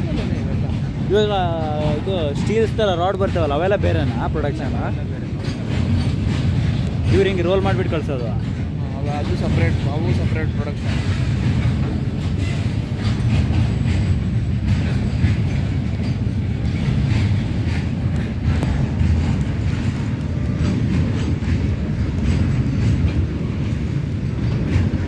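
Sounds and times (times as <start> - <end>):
train wheels rumbling on rail: 0.0 - 25.0
wheels clanking over rail joints: 0.0 - 25.0.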